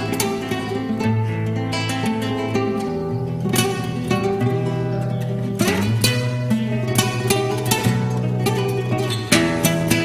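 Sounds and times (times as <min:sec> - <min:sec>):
plucked strings: 0:00.0 - 0:10.0.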